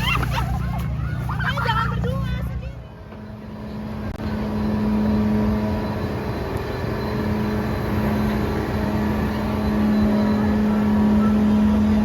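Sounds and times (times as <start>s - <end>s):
engine humming and rumbling: 0.0s - 12.0s.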